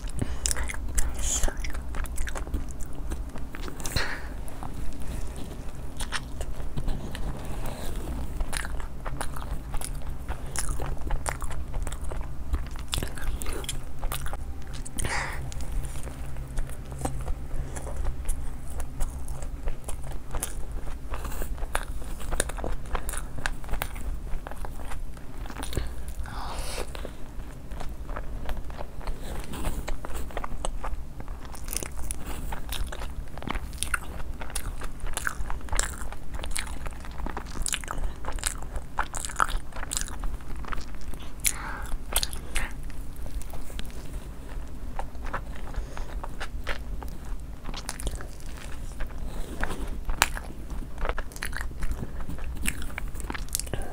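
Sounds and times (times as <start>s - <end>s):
crunching and chewing crispy food: 0.0s - 53.9s.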